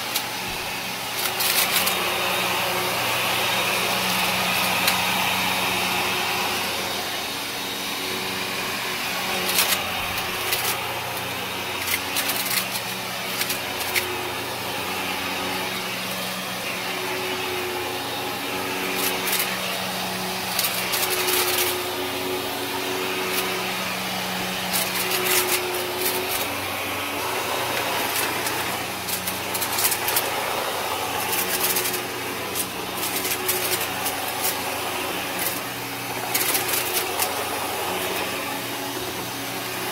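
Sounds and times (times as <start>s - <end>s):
vacuum cleaner motor hum: 0.0s - 39.9s.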